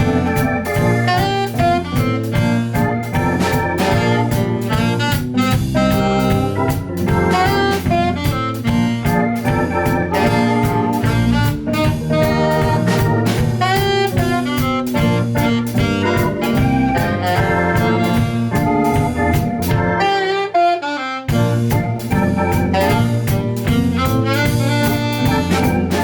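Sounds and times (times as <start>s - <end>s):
bass: 0.0s - 20.3s, 21.3s - 26.0s
drum kit: 0.0s - 20.6s, 21.2s - 26.0s
jazz band playing: 0.0s - 26.0s
saxophone melody: 0.0s - 26.0s.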